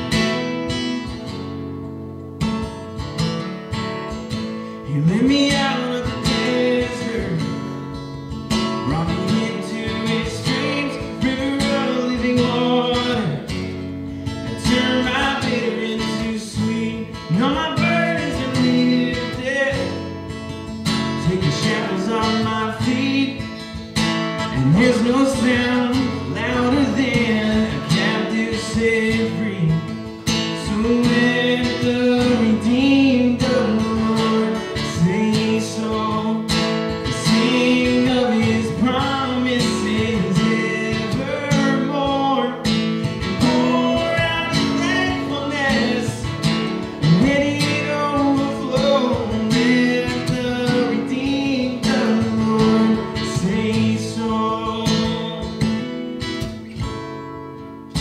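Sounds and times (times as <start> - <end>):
strummed acoustic guitar: 0.0 - 58.0
man singing: 4.3 - 56.1.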